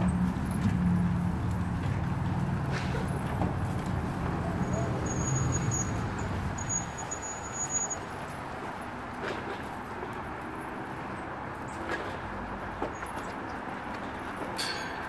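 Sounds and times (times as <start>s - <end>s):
background traffic hum: 0.0s - 15.0s
car engine running nearby: 0.0s - 15.0s.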